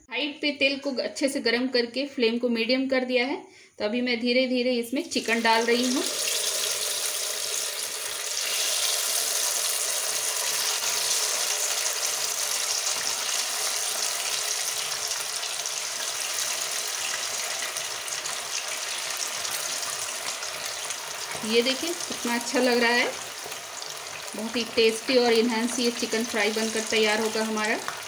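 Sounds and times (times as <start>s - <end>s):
chicken sizzling in hot oil: 5.1s - 28.0s.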